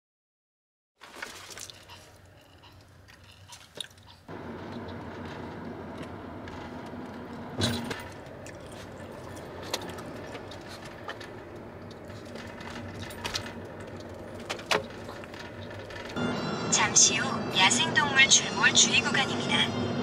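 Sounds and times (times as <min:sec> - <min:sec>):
car cabin road and engine noise: 0:02.2 - 0:20.0.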